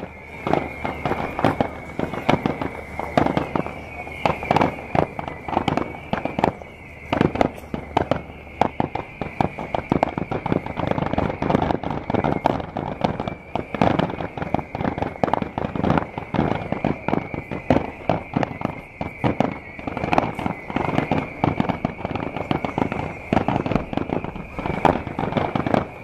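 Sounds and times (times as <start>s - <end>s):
fireworks bursting: 0.0s - 26.0s
high-pitched whine: 0.0s - 26.0s.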